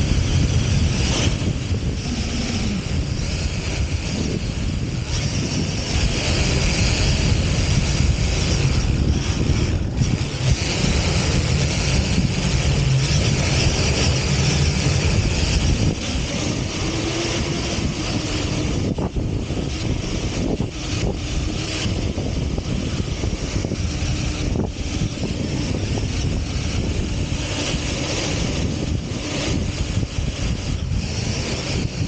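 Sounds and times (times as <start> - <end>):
rc car motor running: 0.0 - 32.0
wind rumble on microphone: 0.0 - 32.0.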